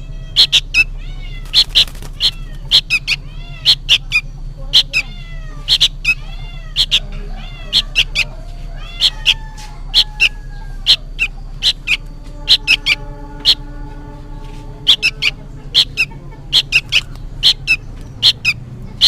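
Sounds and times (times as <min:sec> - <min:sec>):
young bird calling shrilly: 0:00.0 - 0:13.7, 0:14.8 - 0:18.6
steady low hum: 0:00.0 - 0:19.0.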